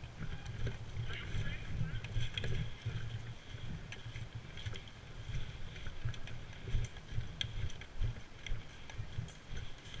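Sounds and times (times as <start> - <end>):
faint clicks and ticks: 0.0 - 10.0
low rumble of wind: 0.0 - 10.0.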